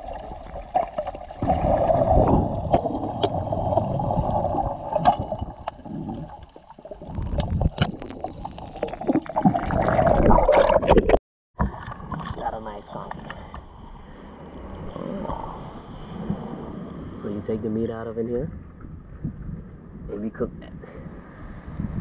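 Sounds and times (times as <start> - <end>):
muffled underwater water rushing: 0.0 - 22.0.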